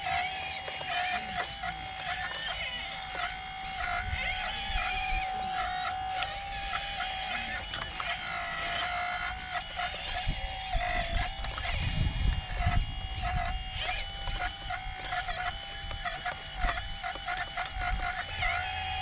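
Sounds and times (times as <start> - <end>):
birds chirping: 0.0 - 19.0
hydraulic pump whining: 0.0 - 19.0.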